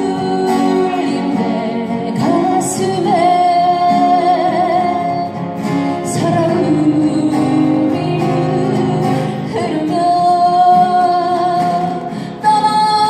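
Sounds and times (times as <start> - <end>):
acoustic guitar: 0.0 - 13.0
woman singing folk song: 0.0 - 13.0.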